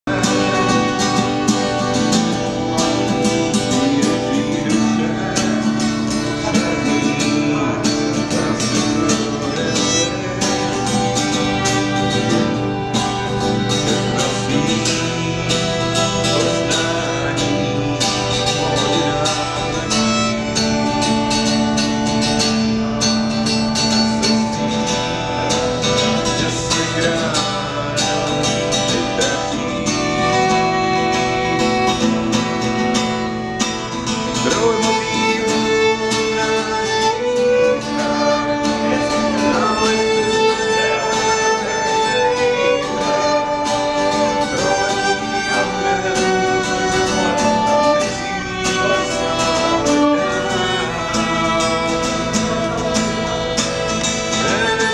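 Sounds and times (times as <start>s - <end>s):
acoustic guitar strumming: 0.0s - 54.9s
fiddles playing melody: 0.0s - 54.9s.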